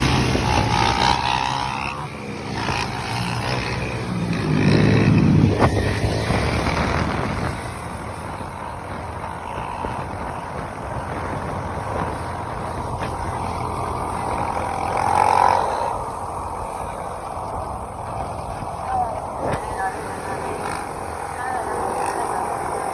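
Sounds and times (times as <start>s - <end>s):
vehicle engines on road: 0.0s - 22.9s.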